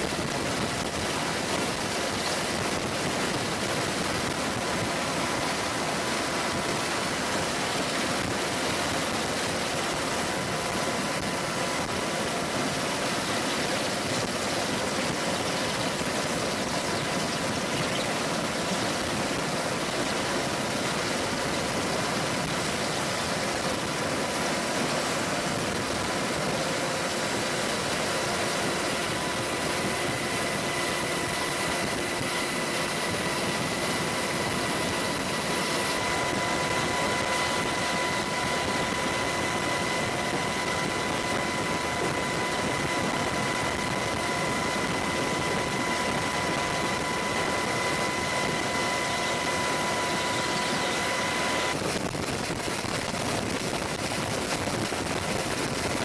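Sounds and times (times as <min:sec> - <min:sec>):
constant rushing noise: 0:00.0 - 0:56.0
helicopter engines whining: 0:00.0 - 0:56.0.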